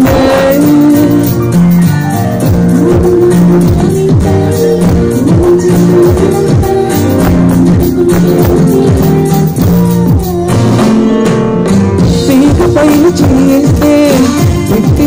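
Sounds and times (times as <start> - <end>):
music with booming bass drum: 0.0 - 15.0.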